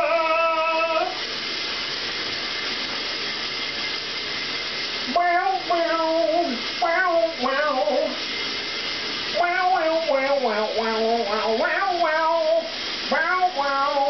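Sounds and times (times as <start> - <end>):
shower spray hissing: 0.0 - 14.0.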